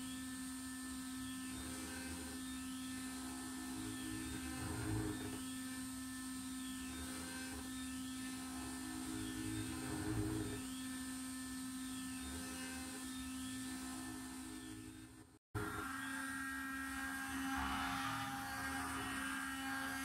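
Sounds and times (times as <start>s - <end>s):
rising and falling motor whine: 0.0s - 20.0s
spindle whine: 0.0s - 20.0s.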